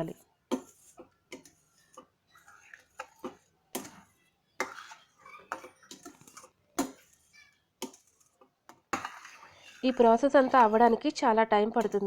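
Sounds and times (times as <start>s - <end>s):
spoon scraping and knocking pan: 0.0s - 12.0s.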